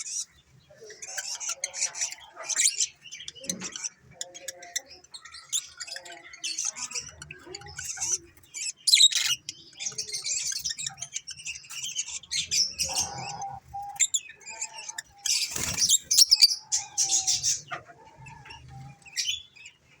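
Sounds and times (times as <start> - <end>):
lovebirds chirping and chattering: 0.0 - 20.0.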